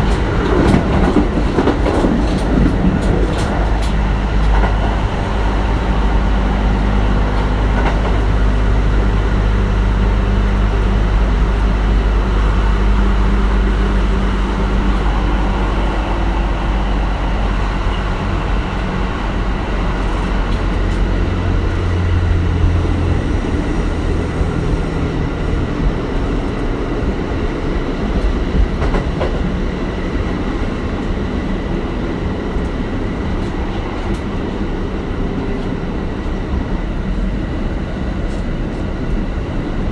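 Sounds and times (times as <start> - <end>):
electric train rumbling: 0.0 - 39.9.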